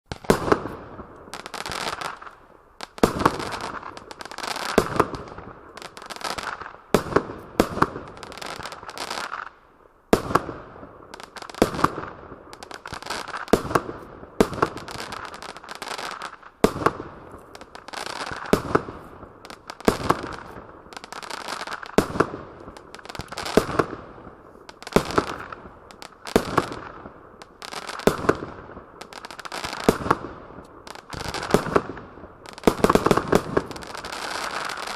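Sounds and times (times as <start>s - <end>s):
firework bangs with hiss: 0.1s - 34.9s.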